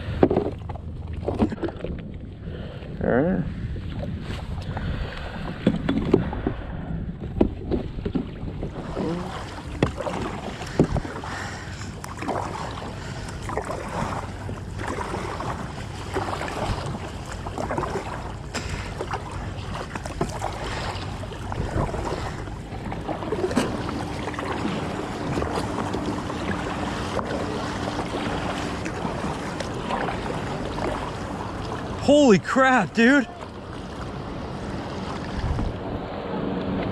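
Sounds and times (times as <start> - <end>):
water sloshing against kayak hull: 0.0 - 2.9, 3.6 - 36.9
wind on microphone: 0.0 - 32.0, 33.4 - 36.9.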